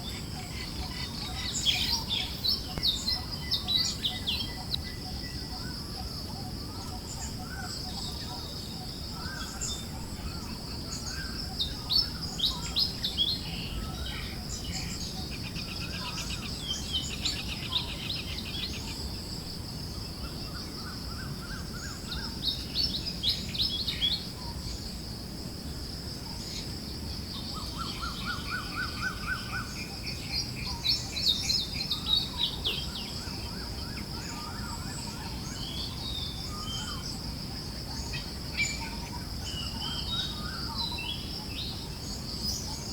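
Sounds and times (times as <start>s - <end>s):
birds chirping and trilling: 0.0s - 19.1s, 26.3s - 42.9s.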